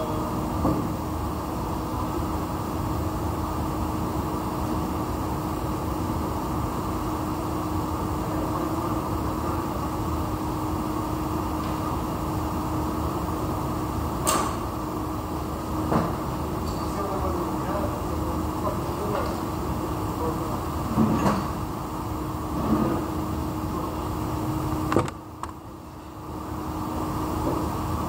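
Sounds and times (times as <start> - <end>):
workshop machinery hum: 0.0 - 28.0.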